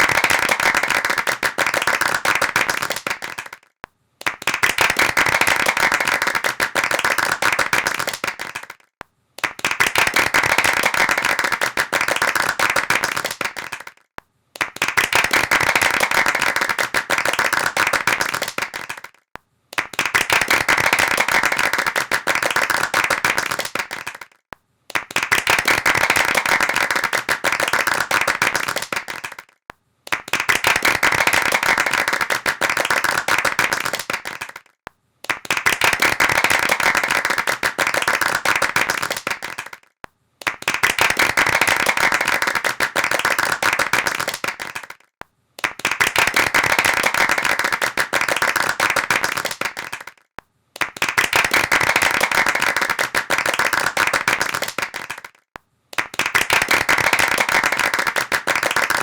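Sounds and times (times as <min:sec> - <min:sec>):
hand clapping: 0:00.0 - 0:59.0.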